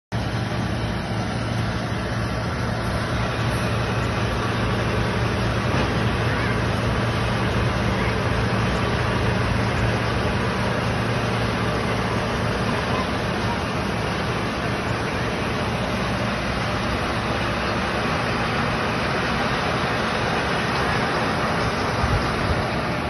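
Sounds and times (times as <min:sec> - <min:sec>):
baler machinery running: 0:00.1 - 0:23.0
tractor engine under load: 0:00.1 - 0:23.0.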